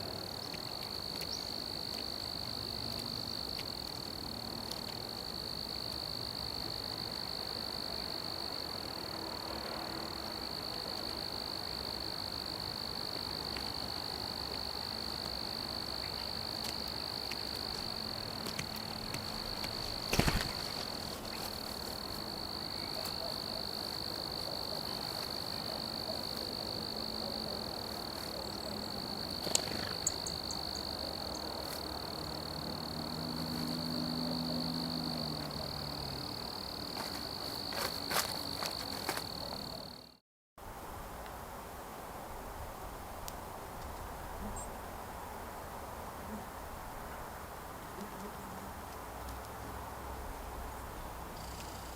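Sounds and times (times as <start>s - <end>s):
crickets trilling: 0.0s - 40.2s, 44.4s - 44.8s, 47.3s - 51.9s.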